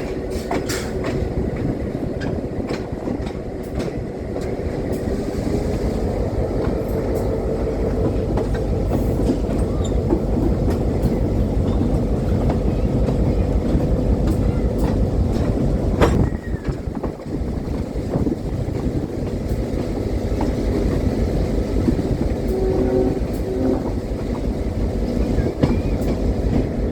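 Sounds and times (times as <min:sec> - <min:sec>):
train rumble with wheel clatter: 0:00.0 - 0:26.9.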